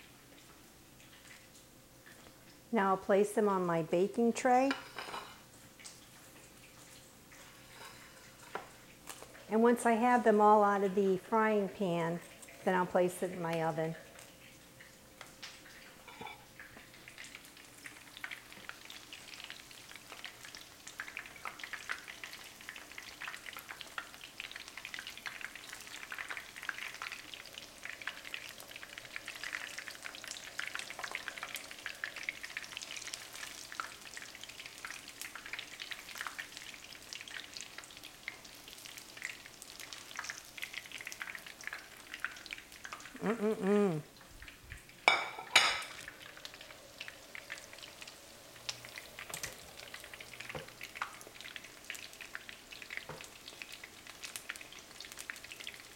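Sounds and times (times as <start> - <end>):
food deep frying in oil: 0.0 - 55.9.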